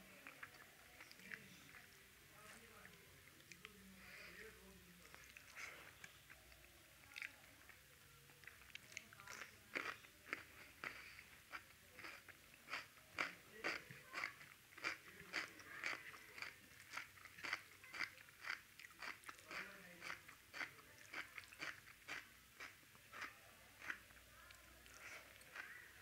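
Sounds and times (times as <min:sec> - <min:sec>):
person chewing food: 0:00.1 - 0:01.9, 0:05.0 - 0:26.0.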